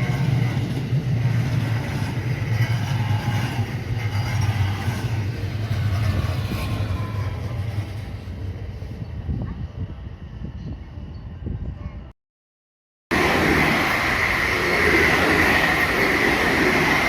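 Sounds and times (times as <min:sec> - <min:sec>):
electric train rumbling past: 0:00.0 - 0:11.7, 0:13.1 - 0:17.0.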